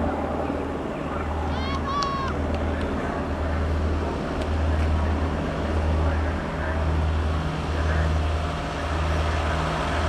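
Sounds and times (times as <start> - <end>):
road noise: 0.0 - 10.0
vehicle engines rumbling: 0.0 - 10.0.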